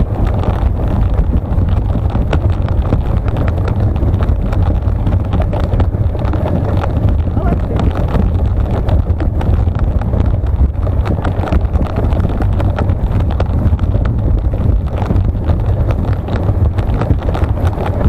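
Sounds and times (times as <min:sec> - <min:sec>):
dog paws and sled on snow: 0:00.0 - 0:18.0
wind buffeting microphone: 0:00.0 - 0:18.0.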